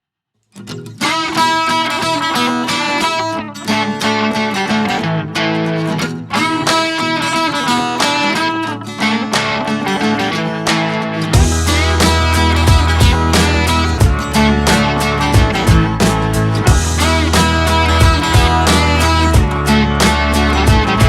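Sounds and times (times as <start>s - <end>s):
plucked guitar music: 0.5s - 21.0s.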